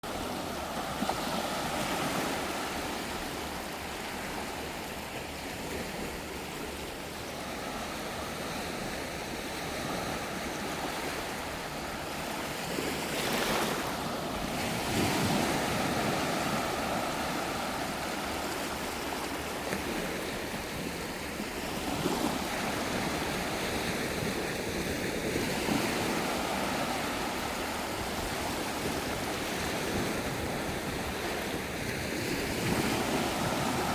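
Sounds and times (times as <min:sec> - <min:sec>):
ocean waves breaking on beach: 0:00.0 - 0:33.9
wind noise on microphone: 0:00.0 - 0:33.9.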